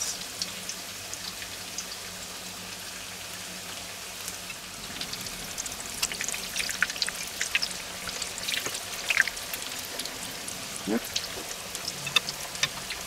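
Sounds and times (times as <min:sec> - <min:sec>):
vegetable slices sizzling in oil: 0:00.0 - 0:13.0.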